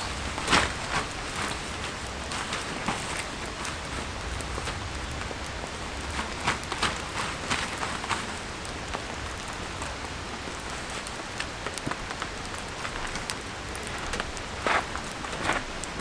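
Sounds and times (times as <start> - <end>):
heavy raindrops ticking: 0.0 - 16.0
steady rain: 0.0 - 16.0.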